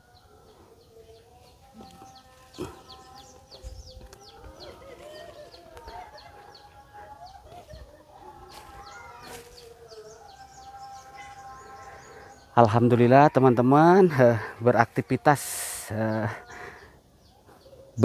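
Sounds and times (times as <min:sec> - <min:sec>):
chickens clucking: 0:00.0 - 0:18.0
small birds chirping: 0:00.0 - 0:18.0.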